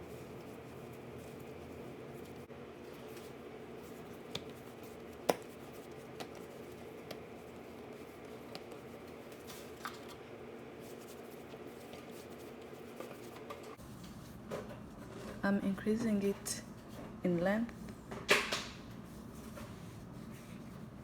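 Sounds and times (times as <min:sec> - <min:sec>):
soft dough handling noise: 0:00.0 - 0:18.2, 0:18.8 - 0:21.0.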